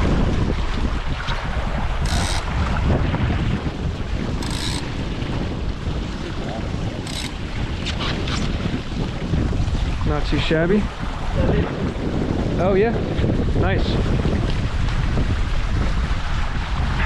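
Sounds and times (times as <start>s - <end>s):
water rushing past hulls: 0.0s - 17.0s
wind buffeting microphone: 0.0s - 17.0s.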